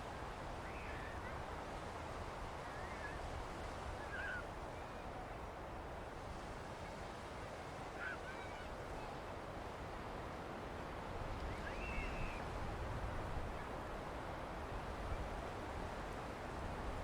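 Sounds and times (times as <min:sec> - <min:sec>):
sea: 0:00.0 - 0:17.0
wind: 0:00.0 - 0:17.0.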